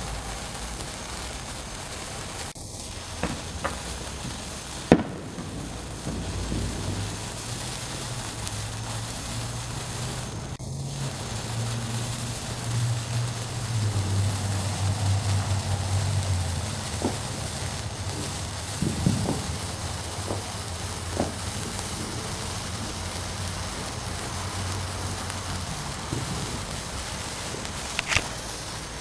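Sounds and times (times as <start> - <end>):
firework fountain hissing: 0.0 - 29.0
sharp pops: 2.4 - 29.0.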